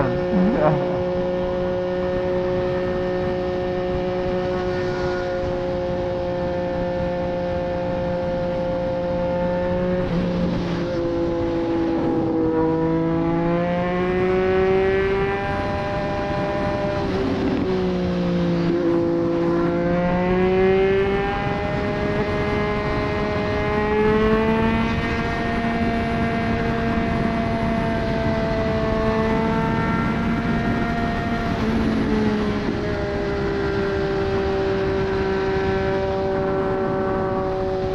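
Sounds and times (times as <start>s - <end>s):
motorcycle engine at speed: 0.0s - 37.9s.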